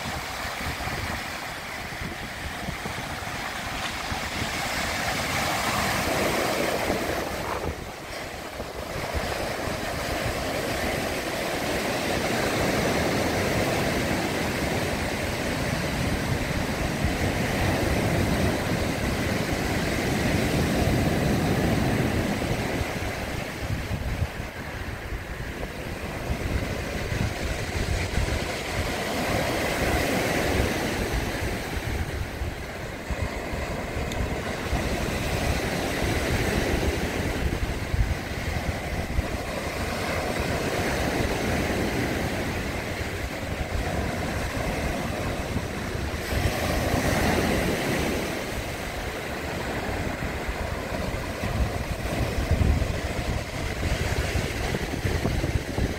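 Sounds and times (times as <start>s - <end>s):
sea waves breaking on shore: 0.0s - 55.9s
wind rumble on microphone: 0.0s - 55.9s.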